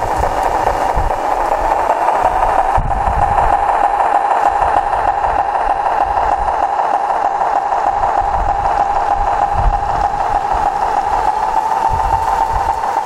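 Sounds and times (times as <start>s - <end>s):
diesel engine sound from speaker: 0.0s - 13.0s
model train running on track: 0.0s - 13.0s.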